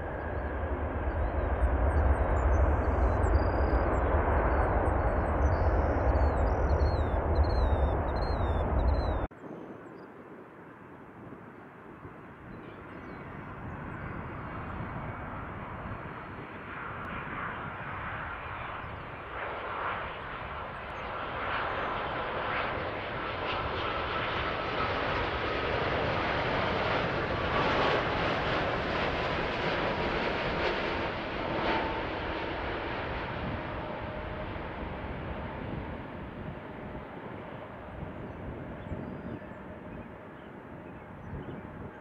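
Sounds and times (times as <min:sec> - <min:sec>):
jet engines roaring: 0:00.0 - 0:09.8, 0:13.2 - 0:40.8.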